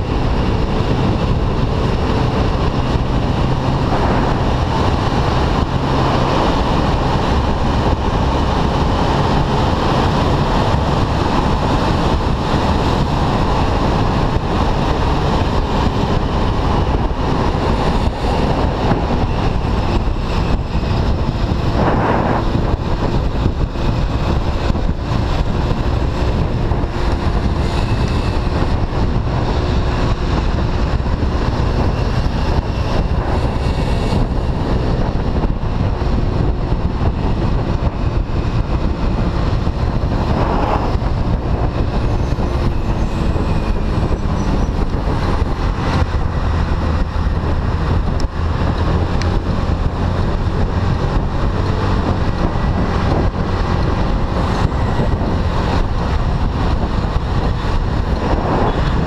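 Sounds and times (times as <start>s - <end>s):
scooter engine humming: 0.0s - 59.0s
wind noise on microphone: 0.0s - 59.0s.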